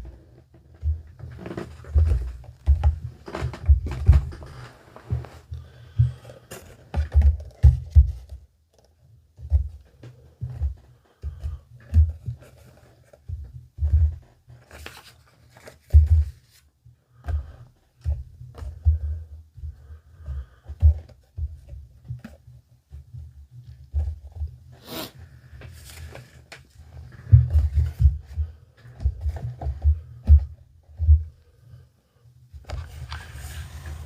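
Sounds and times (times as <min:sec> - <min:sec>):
dull bumps and knocks: 0:00.0 - 0:08.5, 0:09.3 - 0:15.0, 0:15.6 - 0:24.7, 0:26.8 - 0:31.6
rustling or crinkling: 0:00.0 - 0:31.8, 0:32.5 - 0:34.0.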